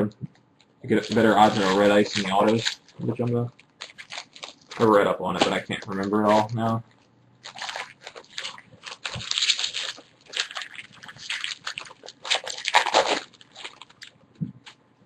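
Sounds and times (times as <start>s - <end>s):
wrappers crinkling and tearing: 0.9s - 14.8s.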